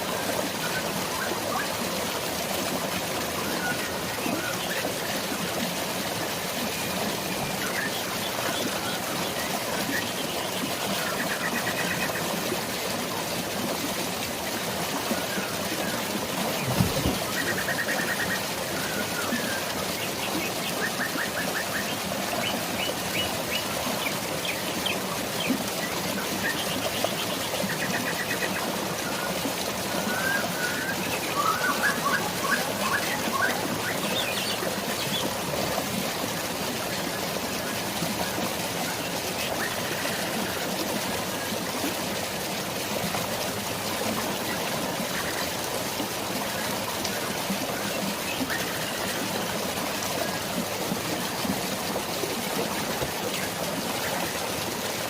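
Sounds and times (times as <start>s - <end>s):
flowing water: 0.0s - 55.0s
rain: 0.0s - 55.0s.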